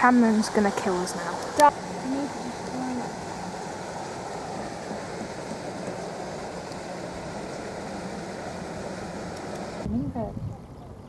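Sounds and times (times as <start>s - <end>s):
steady rushing noise: 0.0s - 10.3s.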